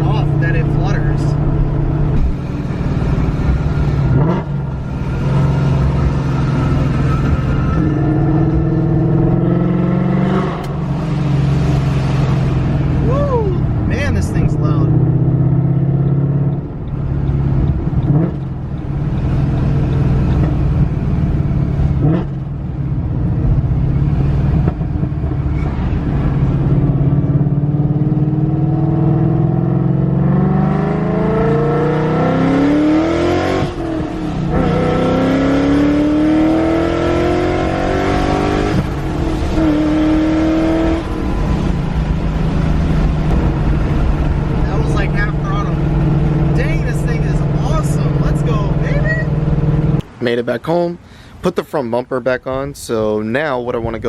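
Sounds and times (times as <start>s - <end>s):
car engine accelerating: 0.0s - 50.2s.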